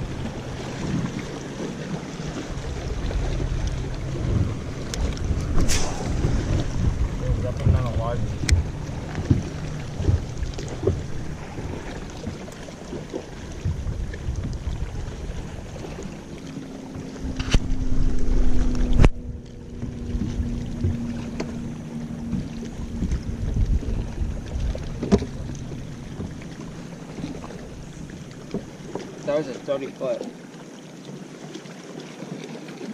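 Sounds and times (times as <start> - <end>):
steady low hum: 0.0 - 28.9
wind buffeting microphone: 0.0 - 29.0
water moving around boat: 0.0 - 32.9.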